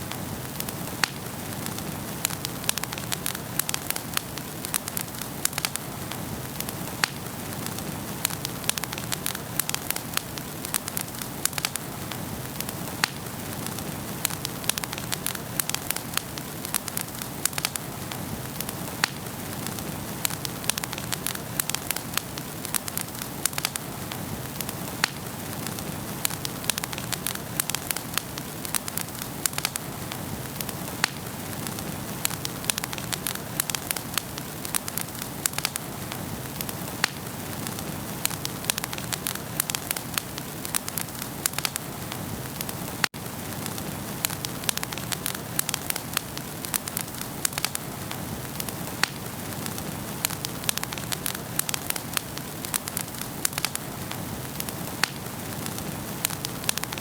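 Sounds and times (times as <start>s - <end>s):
low hiss of burning: 0.0s - 57.0s
wood fire crackling: 0.0s - 57.0s.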